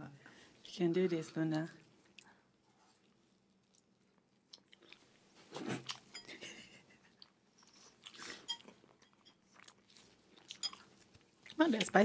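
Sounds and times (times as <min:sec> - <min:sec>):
chewing and crunching food: 0:00.6 - 0:06.4, 0:07.0 - 0:12.0.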